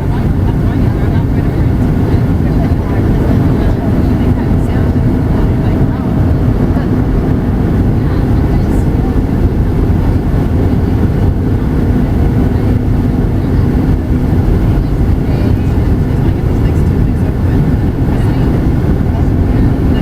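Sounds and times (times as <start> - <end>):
airflow past fuselage: 0.0 - 20.0
jet engines rumbling: 0.0 - 20.0
steady low hum: 0.0 - 20.0.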